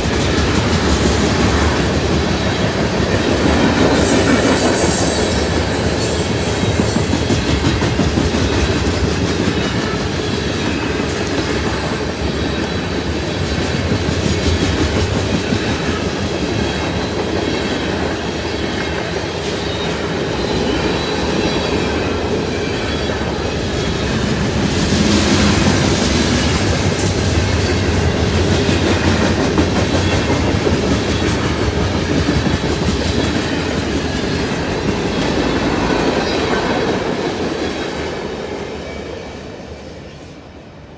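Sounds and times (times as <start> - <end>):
clickety-clack over rail joints: 0.0 - 39.6
train wheels rumbling on rail: 0.0 - 40.9.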